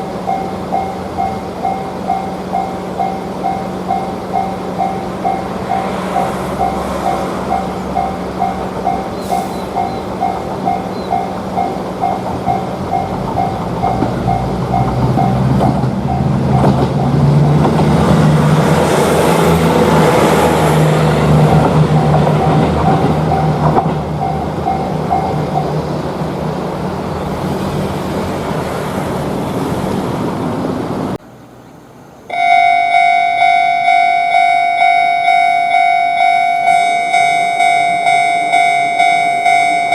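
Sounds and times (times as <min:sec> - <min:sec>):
railroad crossing bell ringing: 0:00.0 - 0:17.7, 0:18.5 - 0:26.6, 0:32.3 - 0:39.9
train rumble: 0:00.0 - 0:31.4, 0:32.3 - 0:39.9.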